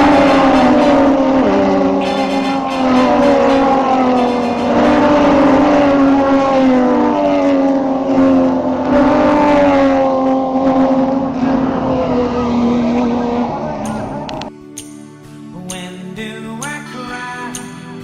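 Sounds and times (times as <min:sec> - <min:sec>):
racing car engine at high revs: 0:00.0 - 0:14.5.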